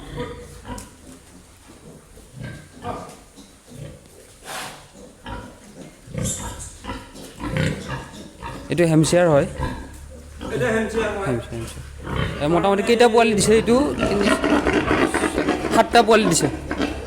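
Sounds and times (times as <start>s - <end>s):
pigs grunting and squealing: 0.0s - 17.0s.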